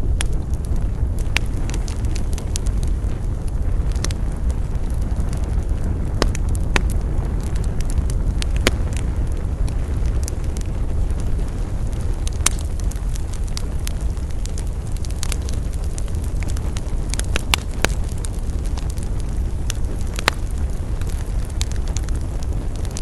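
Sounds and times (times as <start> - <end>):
roar of flames: 0.0 - 23.0
wood crackling and popping: 0.0 - 23.0.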